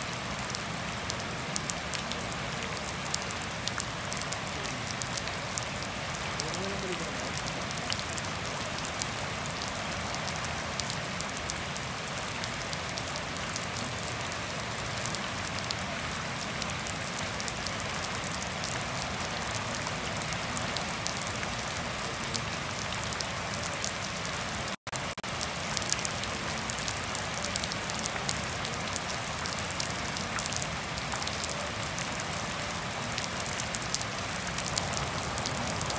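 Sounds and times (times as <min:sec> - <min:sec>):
raindrop splats: 0:00.0 - 0:35.9
steady rain hiss: 0:00.0 - 0:35.9.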